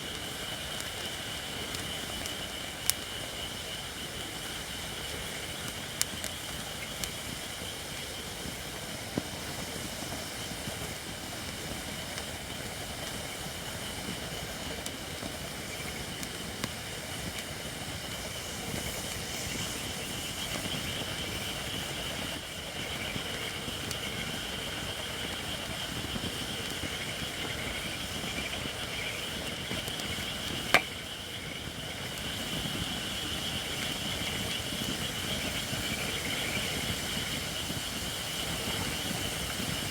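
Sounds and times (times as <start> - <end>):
fire crackling and popping: 0.0 - 39.9
firewood hissing in campfire: 0.0 - 39.9.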